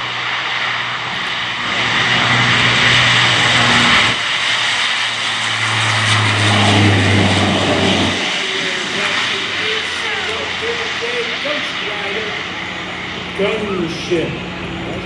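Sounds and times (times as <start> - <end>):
low propeller hum: 0.0 - 15.0
rushing engine noise: 0.0 - 15.0.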